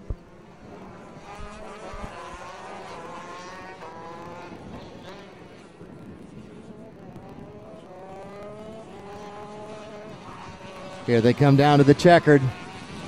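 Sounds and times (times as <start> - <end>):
racing kart engines accelerating: 0.0 - 13.0.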